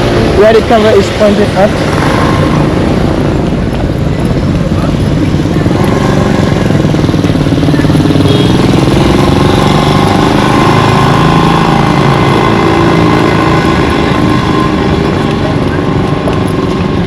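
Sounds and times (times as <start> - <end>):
vehicle engine running pulsing: 0.0 - 17.0.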